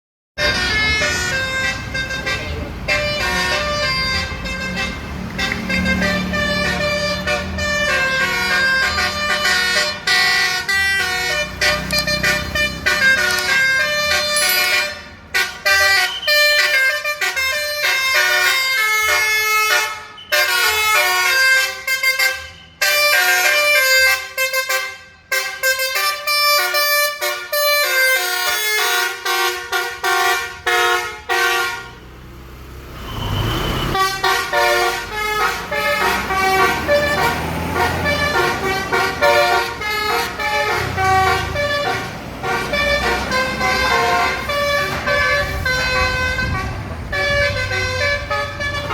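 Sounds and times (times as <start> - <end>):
musical bus air horn: 0.4 - 32.0, 33.2 - 48.9.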